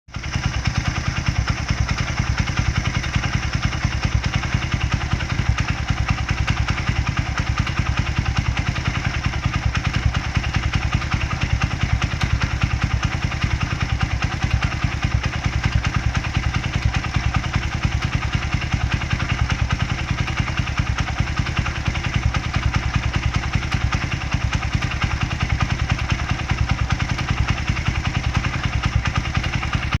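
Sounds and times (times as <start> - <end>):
motorcycle engine idling: 0.1 - 30.0
rapid engine clatter: 0.1 - 30.0.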